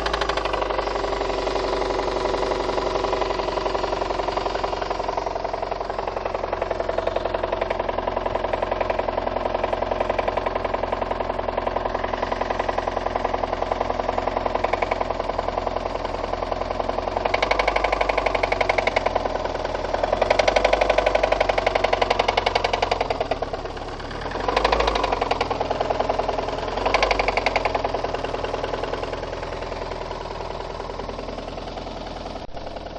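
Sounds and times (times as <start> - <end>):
car engine knocking: 0.0 - 32.9.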